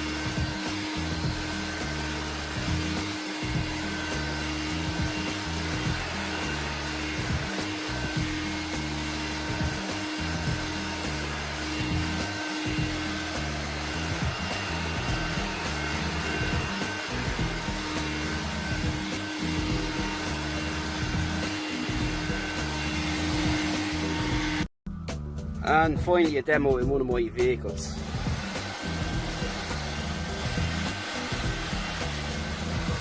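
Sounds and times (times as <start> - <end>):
vacuum cleaner on carpet: 0.0 - 24.7, 27.9 - 33.0.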